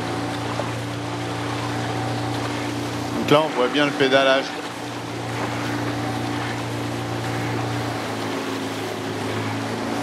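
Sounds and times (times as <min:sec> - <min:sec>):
outboard motor humming: 0:00.0 - 0:10.0
water and wind hiss: 0:00.0 - 0:10.0.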